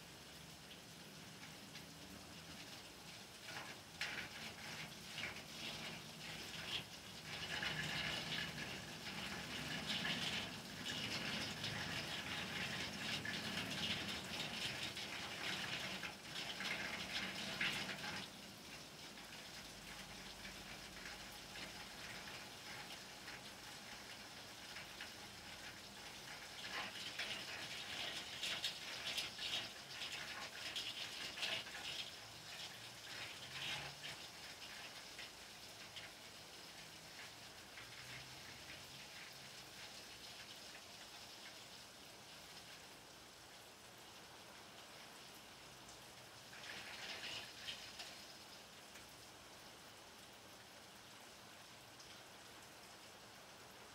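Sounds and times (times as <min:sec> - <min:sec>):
rain falling on rooftops: 0:00.0 - 0:53.9.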